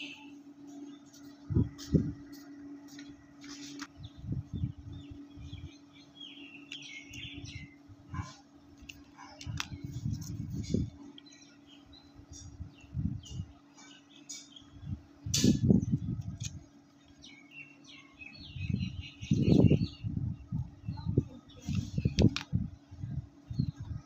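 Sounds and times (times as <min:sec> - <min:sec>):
birds chirping: 0:00.0 - 0:24.0
low hum: 0:00.0 - 0:24.0.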